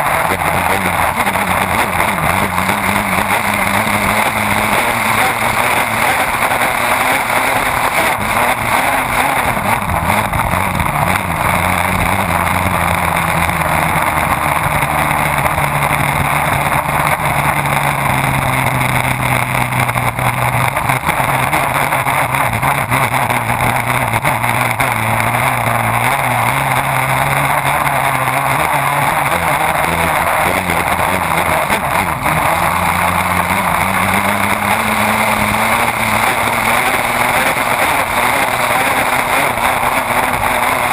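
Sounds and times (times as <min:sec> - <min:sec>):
boat engine running hard: 0:00.0 - 0:40.9.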